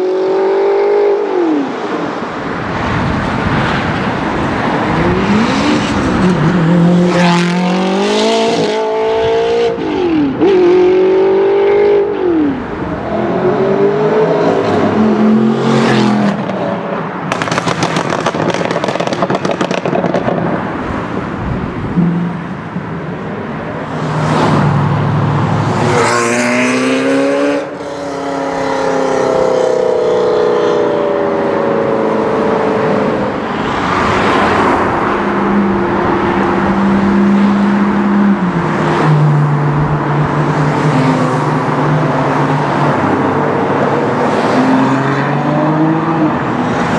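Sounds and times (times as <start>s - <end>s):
sports cars accelerating hard: 0.0s - 46.9s.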